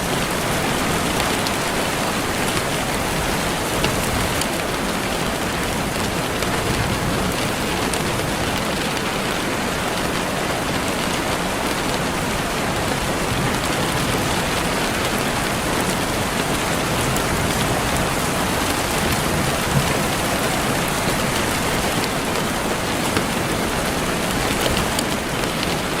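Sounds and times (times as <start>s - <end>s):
louder raindrops: 0.0s - 26.0s
rain falling: 0.0s - 26.0s.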